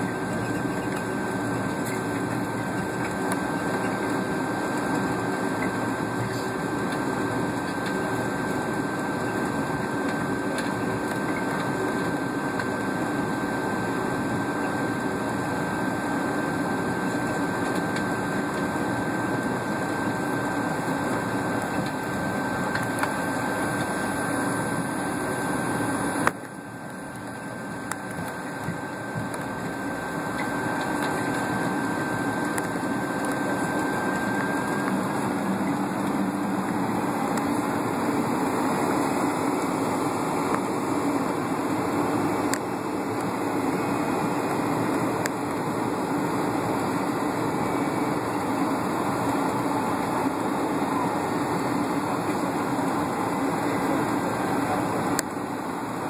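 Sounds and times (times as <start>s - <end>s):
aircraft cabin engine hiss: 0.0s - 56.0s
thin high whine: 0.0s - 56.0s.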